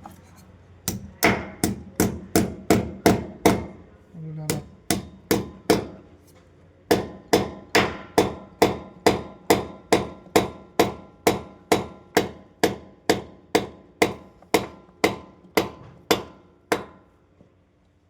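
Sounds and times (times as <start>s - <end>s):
hammering with metallic ring: 0.8s - 3.8s, 4.5s - 6.0s, 6.9s - 17.1s.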